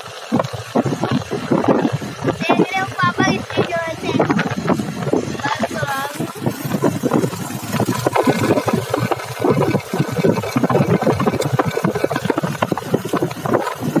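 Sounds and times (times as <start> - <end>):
dense rattle: 0.4 - 14.0.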